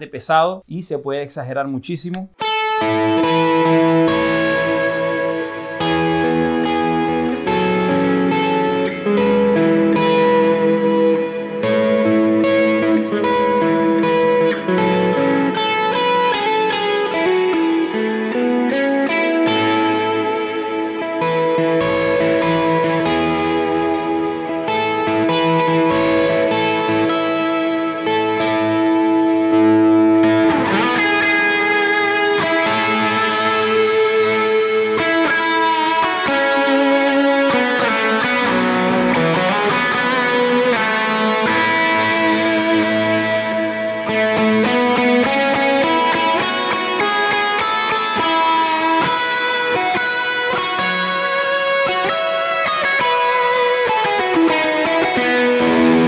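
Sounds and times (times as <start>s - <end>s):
electric guitar with heavy reverb: 2.3s - 56.0s.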